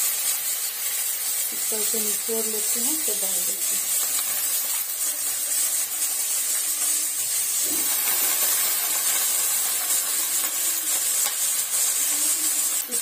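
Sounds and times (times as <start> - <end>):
bamboo shoots sizzling in hot oil: 0.0 - 13.0.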